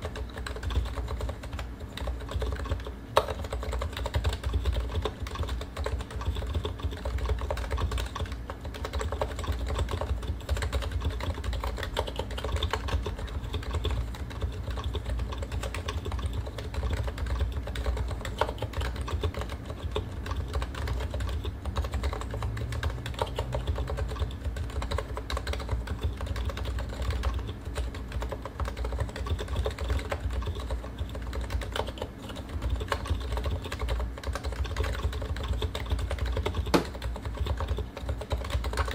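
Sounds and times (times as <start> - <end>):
fast typing on a keyboard: 0.0 - 38.9.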